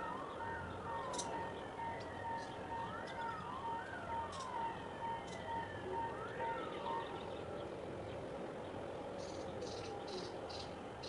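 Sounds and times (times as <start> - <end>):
distant siren wailing: 0.0 - 11.0.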